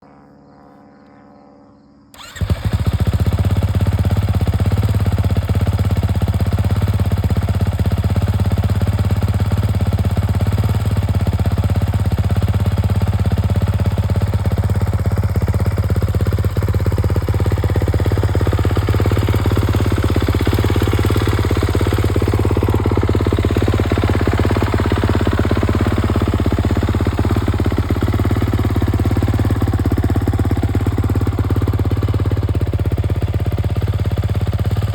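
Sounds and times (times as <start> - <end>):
motorcycle engine starting and idling: 2.1 - 34.9.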